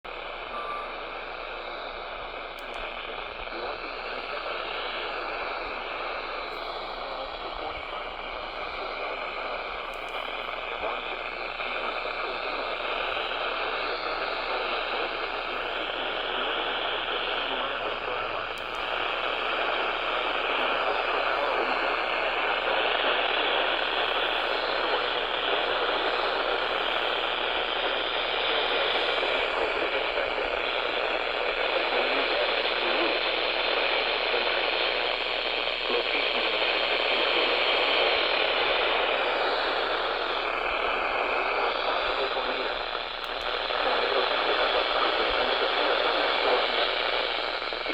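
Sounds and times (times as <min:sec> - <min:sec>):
faint steady tone: 0:00.1 - 0:47.9
radio static hiss: 0:00.1 - 0:47.9.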